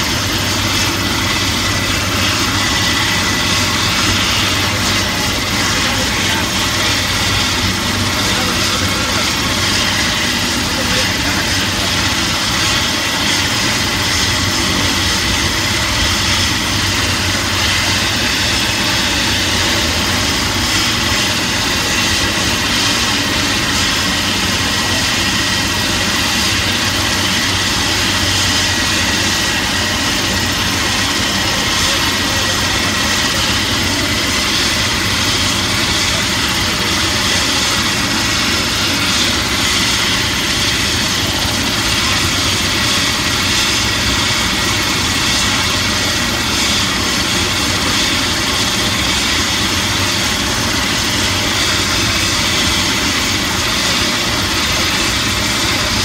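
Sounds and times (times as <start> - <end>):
helicopter turbine whine: 0.0 - 56.0.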